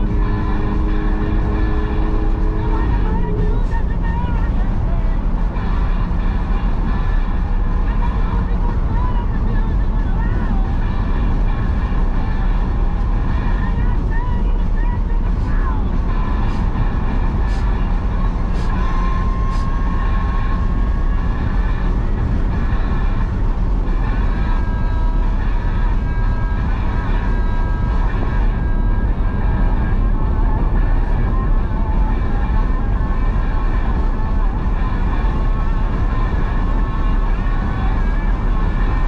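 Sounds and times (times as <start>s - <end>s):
car engine drone from cabin: 0.0s - 39.0s
road and wind noise: 0.0s - 39.0s.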